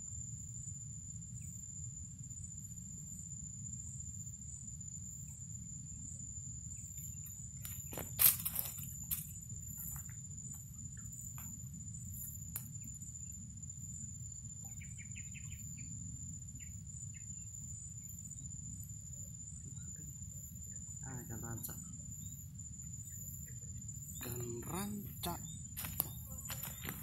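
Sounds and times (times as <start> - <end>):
cricket drone: 0.0 - 27.0.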